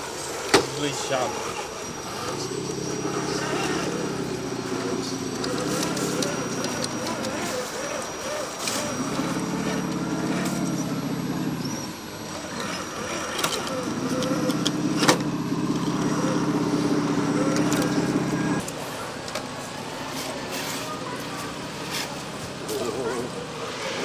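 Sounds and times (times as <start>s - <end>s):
model vehicle engine drone: 0.0s - 24.0s.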